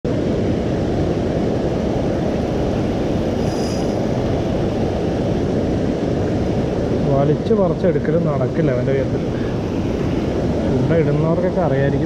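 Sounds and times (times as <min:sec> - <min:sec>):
river rushing: 0:00.1 - 0:12.0
wind buffeting microphone: 0:00.1 - 0:12.0.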